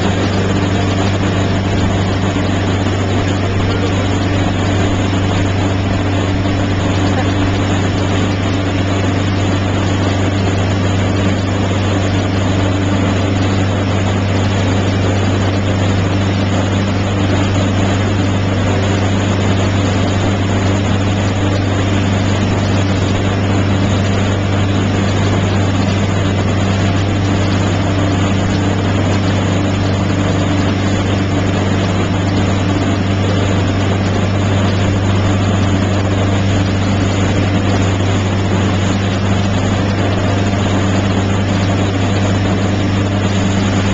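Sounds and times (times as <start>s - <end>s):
boat wake rushing: 0.0s - 43.9s
motorboat engine droning: 0.0s - 43.9s.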